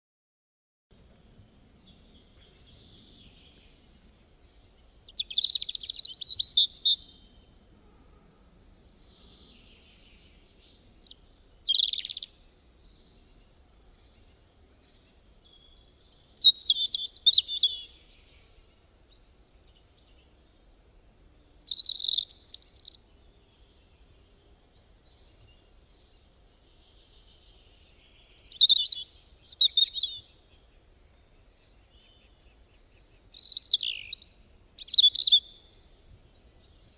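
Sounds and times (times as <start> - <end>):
songbird chirps and trills: 1.0 - 7.7, 8.4 - 36.9.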